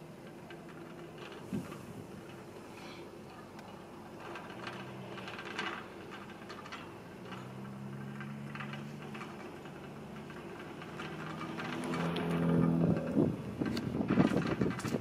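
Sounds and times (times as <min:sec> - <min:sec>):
loader engine hum: 0:00.0 - 0:15.0.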